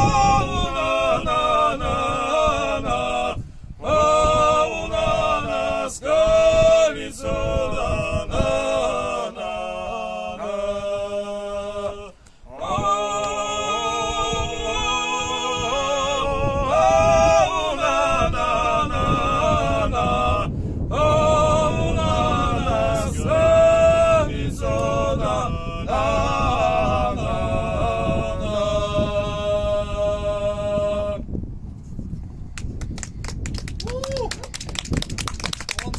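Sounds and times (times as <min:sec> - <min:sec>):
men singing a cappella: 0:00.0 - 0:31.4.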